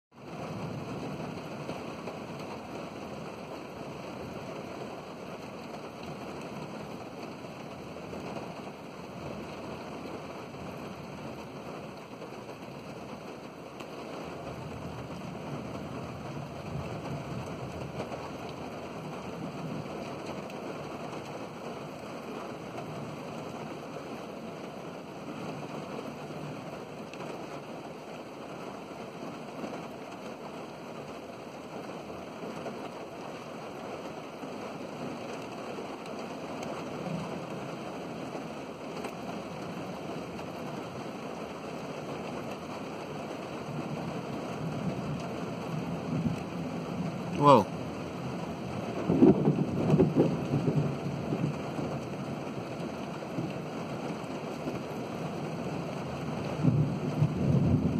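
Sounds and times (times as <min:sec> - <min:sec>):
steady rain falling: 0:00.1 - 0:57.9.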